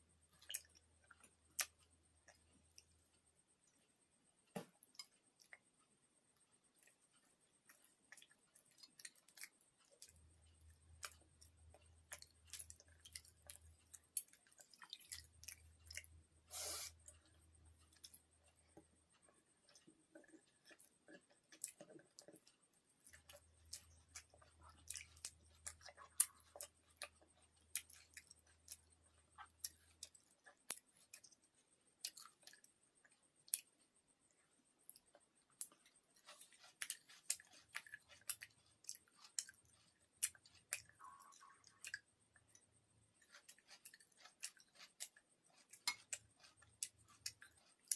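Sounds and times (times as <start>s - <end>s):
chewing and wet mouth clicks: 0.3s - 3.8s, 4.6s - 16.2s, 16.9s - 47.9s.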